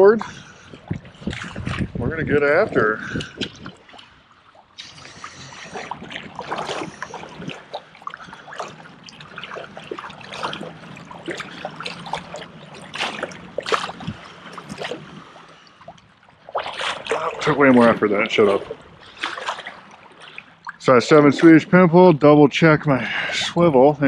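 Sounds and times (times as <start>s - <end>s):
wading through shallow water: 0.0s - 24.0s.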